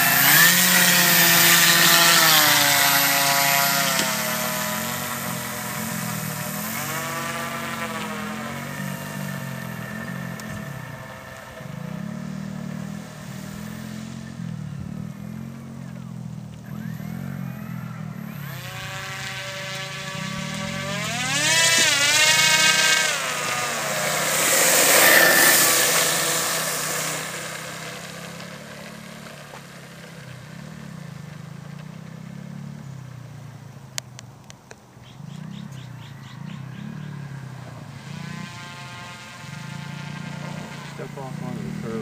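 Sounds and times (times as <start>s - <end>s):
model airplane motor whining: 0.0s - 42.0s.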